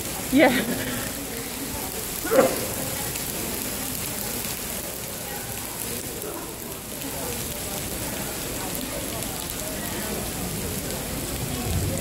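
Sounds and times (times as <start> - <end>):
heavy rain splashing on pavement: 0.0 - 12.0.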